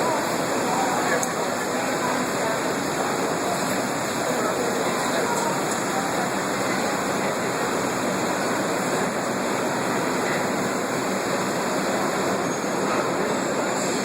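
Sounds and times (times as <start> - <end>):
subway wheels rushing on rail: 0.0 - 14.0.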